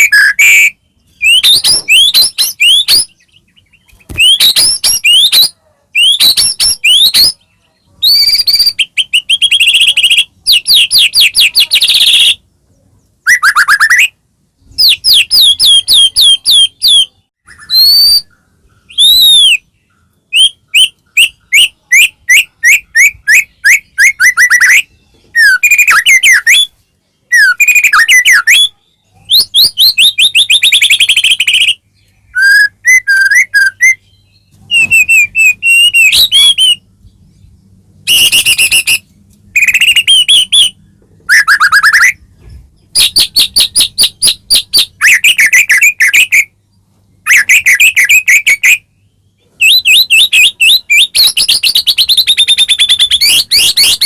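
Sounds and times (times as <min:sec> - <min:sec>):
bird singing whistled trills: 0:00.0 - 0:12.4, 0:13.2 - 0:37.3, 0:38.0 - 0:42.2, 0:42.9 - 0:46.6, 0:47.2 - 0:54.0.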